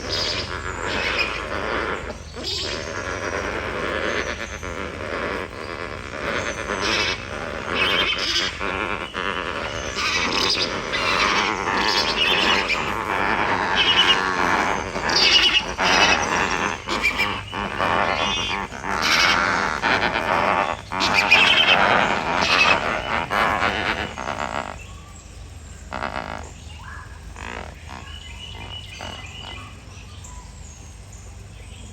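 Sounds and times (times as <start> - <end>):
flock of flamingos calling: 0.0 - 30.8.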